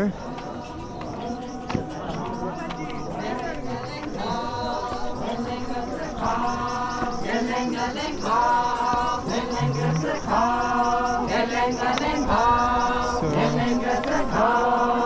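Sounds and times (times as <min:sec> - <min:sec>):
group chanting: 0:00.0 - 0:15.0.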